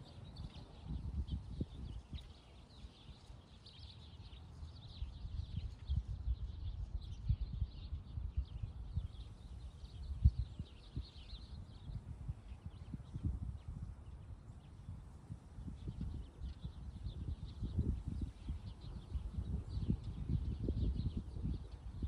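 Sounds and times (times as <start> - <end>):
small birds chirping: 0.0 - 22.0
wind gusting against microphone: 0.0 - 22.0.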